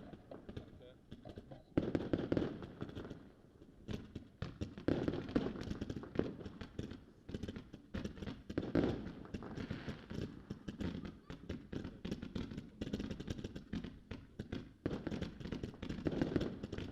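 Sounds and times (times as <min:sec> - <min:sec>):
fireworks booms: 0:00.0 - 0:16.9
fireworks cracking: 0:00.0 - 0:16.9.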